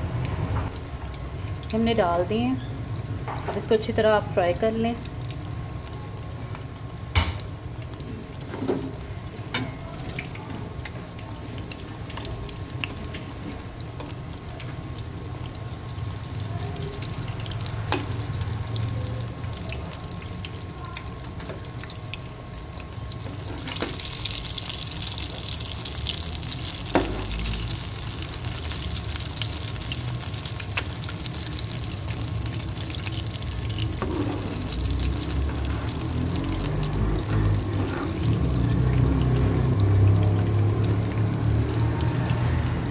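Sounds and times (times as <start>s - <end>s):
chicken deep-frying in oil: 0.0s - 42.9s.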